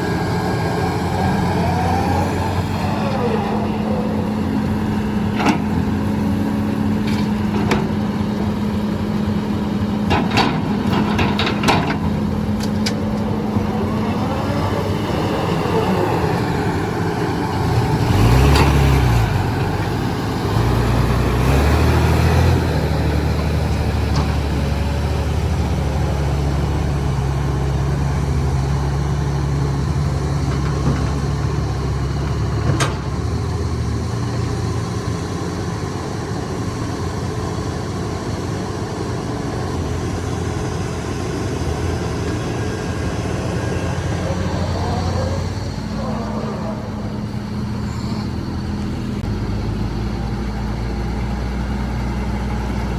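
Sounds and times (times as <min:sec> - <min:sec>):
heavy machine engine revving: 0:00.0 - 0:52.9.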